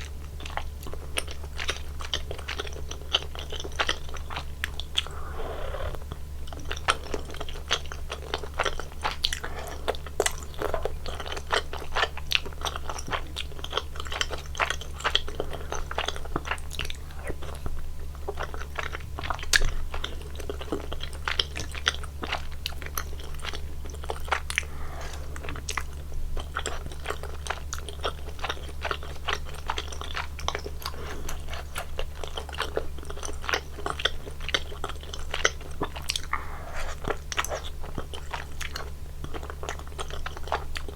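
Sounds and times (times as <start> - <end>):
chewing with wet mouth clicks: 0.0 - 40.9
steady low hum: 0.0 - 40.9.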